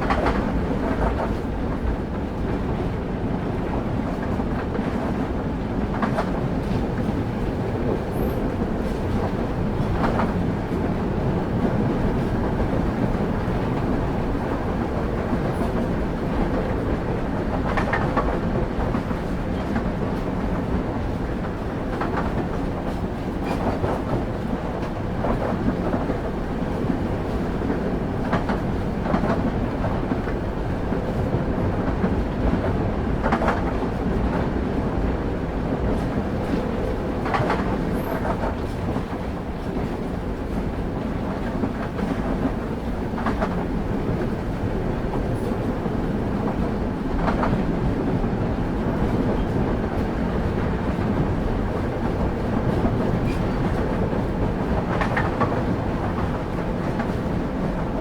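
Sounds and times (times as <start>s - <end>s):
rail joint clicks: 0.0s - 58.0s
train wheels rumbling on track: 0.0s - 58.0s.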